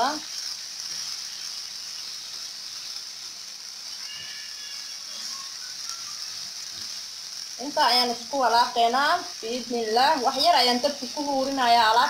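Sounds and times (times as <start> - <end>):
spatula stirring in a pan: 0.0 - 12.0
vegetables sizzling in a frying pan: 0.0 - 12.0.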